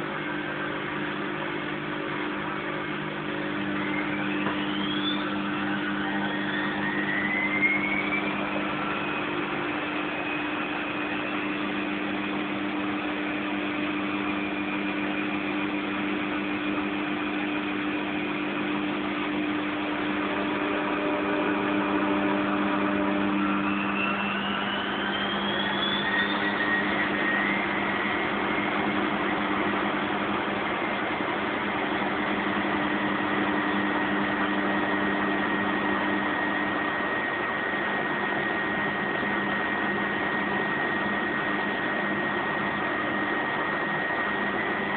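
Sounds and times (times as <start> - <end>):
washing machine spinning: 0.0 - 44.9.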